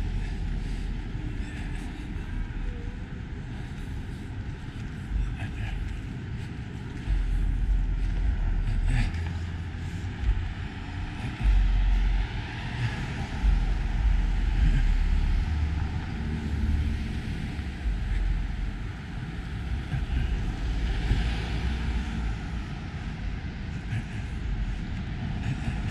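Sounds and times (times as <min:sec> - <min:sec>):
cars passing on road: 0:00.0 - 0:25.9
low rumble: 0:00.0 - 0:25.9.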